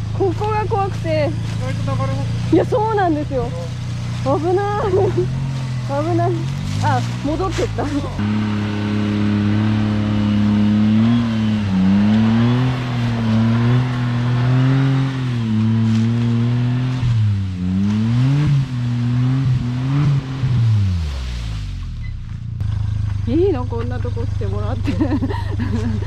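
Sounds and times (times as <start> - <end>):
engine revving hard: 0.0 - 22.0.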